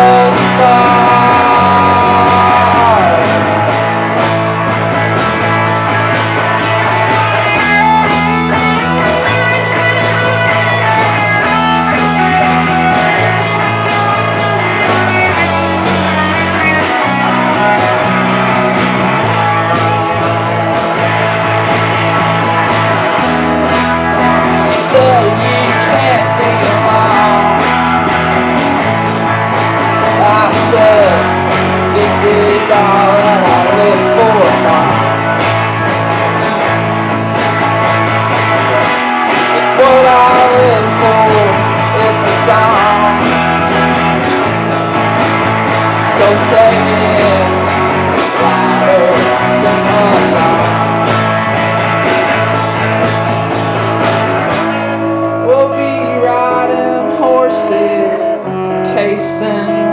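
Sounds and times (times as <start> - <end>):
electric guitar lead lines: 0.0 - 59.9
rock band playing live: 0.0 - 59.9.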